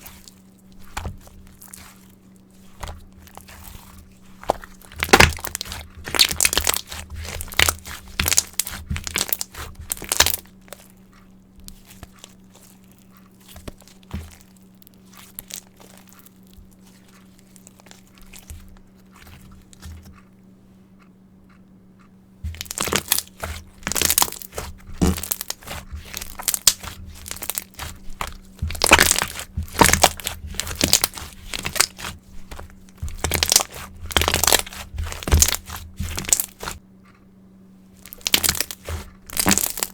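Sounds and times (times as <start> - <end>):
slime crackling and popping: 0.0 - 10.9, 11.6 - 18.6, 22.5 - 36.8, 38.0 - 39.9.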